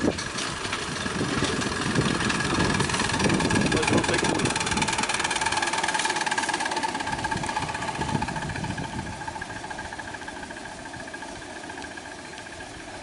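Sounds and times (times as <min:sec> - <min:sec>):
miniature steam locomotive running: 0:00.0 - 0:13.0.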